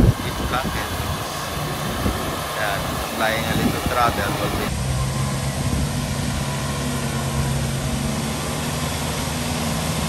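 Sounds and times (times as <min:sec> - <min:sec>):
pickup engine drone: 0:00.0 - 0:10.0.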